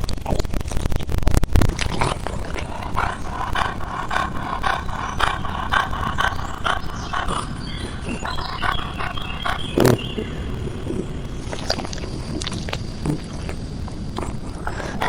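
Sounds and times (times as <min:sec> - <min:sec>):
steady low rumble: 0:01.4 - 0:15.0.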